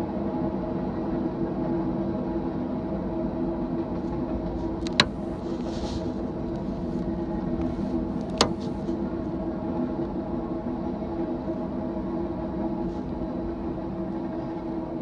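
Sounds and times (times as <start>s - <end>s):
droning hum of tones: 0.0s - 15.0s
freight train rumbling past: 0.6s - 15.0s.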